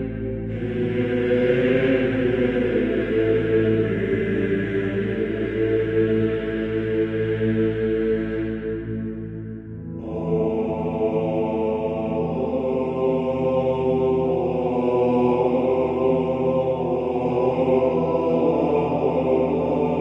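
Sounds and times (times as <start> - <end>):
slow chant-like drone music: 0.0 - 20.0.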